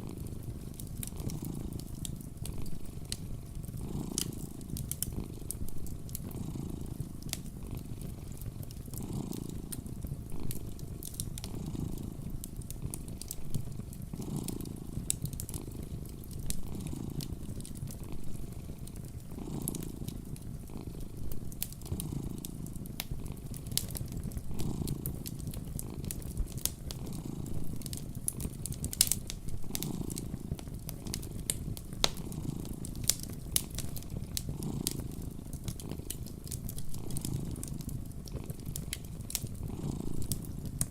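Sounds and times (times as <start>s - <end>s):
cat purring: 0.0s - 40.9s
wood fire crackling: 0.0s - 40.9s.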